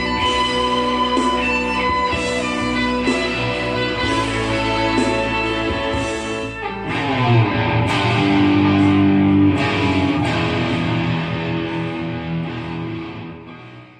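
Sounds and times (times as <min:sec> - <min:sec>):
rock music with electric guitar: 0:00.0 - 0:13.9.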